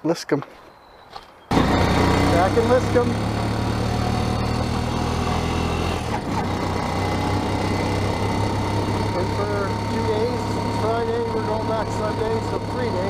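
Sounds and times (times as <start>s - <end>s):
vehicle engine idling: 1.5s - 13.0s.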